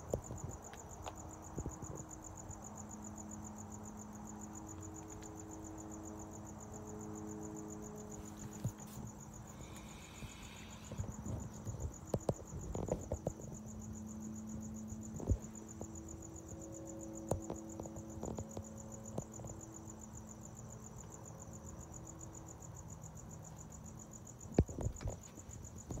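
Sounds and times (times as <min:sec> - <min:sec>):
crickets chirping: 0:00.0 - 0:26.0
faint low hum: 0:00.0 - 0:26.0.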